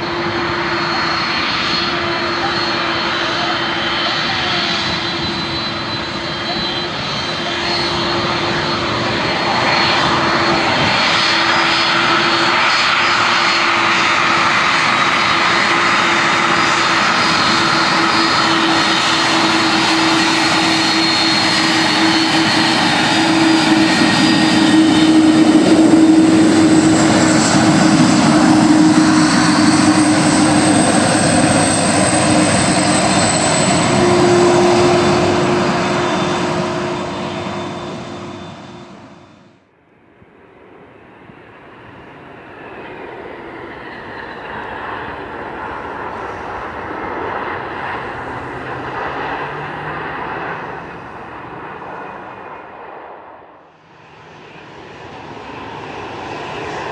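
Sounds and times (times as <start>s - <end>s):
airliner engines running: 0.0s - 56.9s.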